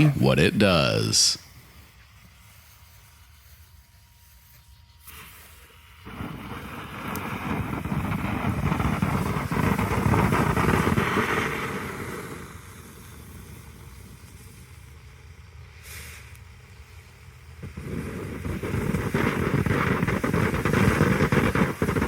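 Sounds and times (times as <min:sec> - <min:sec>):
firework fountain hissing: 0:00.0 - 0:22.0.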